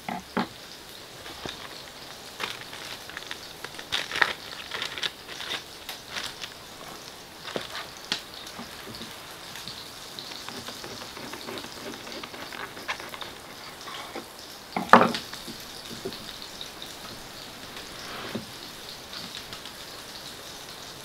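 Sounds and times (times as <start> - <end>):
steady soft hiss: 0.0 - 21.0.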